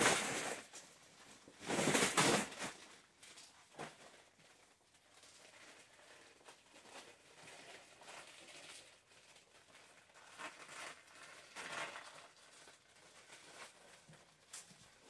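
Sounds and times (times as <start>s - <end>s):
plastic dress rustling and crinkling: 0.0s - 15.0s.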